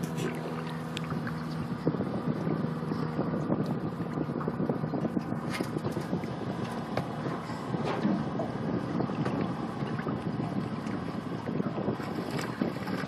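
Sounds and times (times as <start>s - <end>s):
steady low hum: 0.0s - 13.0s
water splashing against boat hull: 0.0s - 13.0s
wind on microphone: 0.0s - 13.0s.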